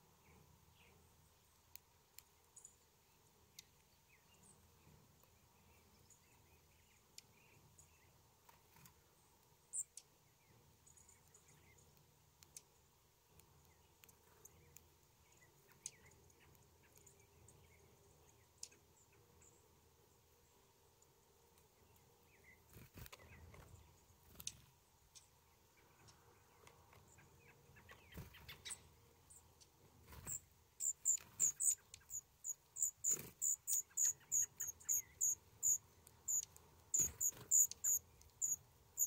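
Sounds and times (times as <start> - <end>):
low steady hiss: 0.0 - 39.0.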